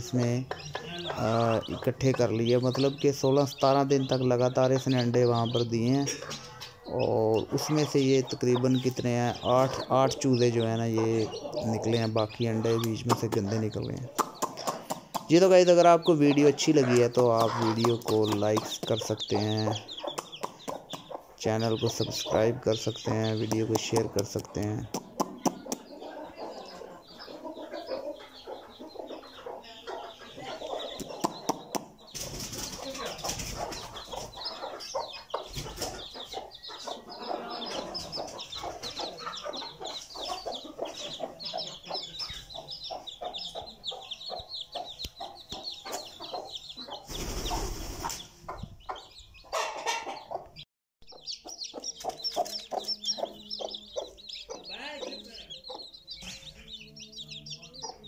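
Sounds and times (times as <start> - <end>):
chicks peeping: 0.0 - 58.0
hen clucking: 0.0 - 58.0.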